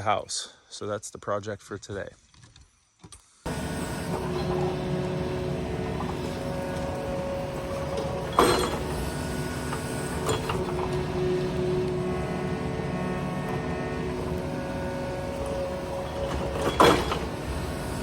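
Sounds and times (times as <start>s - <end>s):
mini excavator running: 3.5s - 18.0s.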